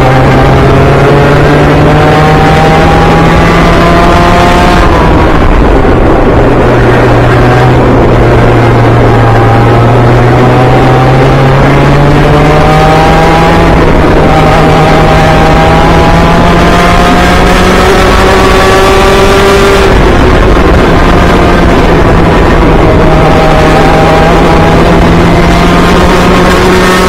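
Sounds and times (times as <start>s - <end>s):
kart engine revving: 0.0s - 27.0s
rushing wind: 0.0s - 27.0s.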